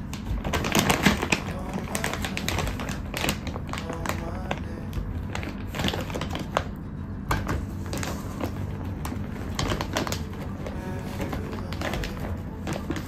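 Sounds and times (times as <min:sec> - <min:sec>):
plastic bag crinkling: 0:00.0 - 0:06.8, 0:07.4 - 0:13.0.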